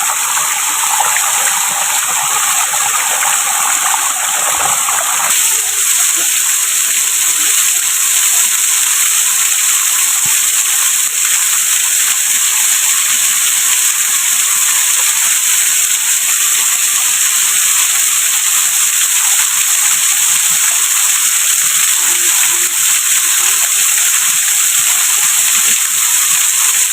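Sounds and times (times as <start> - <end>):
waterfall rushing and splashing: 0.0 - 26.9.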